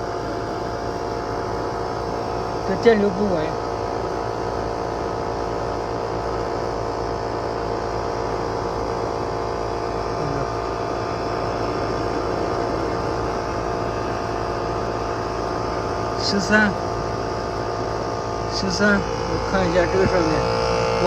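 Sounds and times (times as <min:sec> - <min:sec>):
air conditioner compressor humming: 0:00.0 - 0:21.0.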